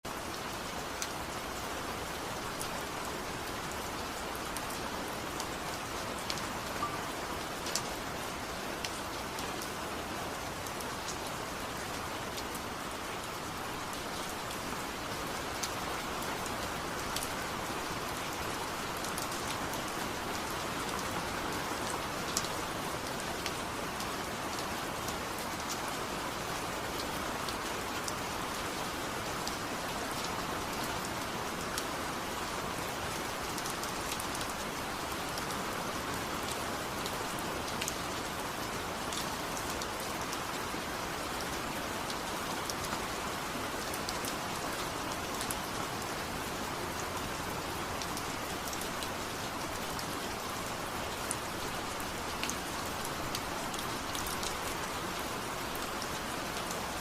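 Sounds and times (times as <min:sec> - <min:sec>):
sharp ticks of raindrops: 0:00.0 - 0:57.0
steady rain falling: 0:00.0 - 0:57.0.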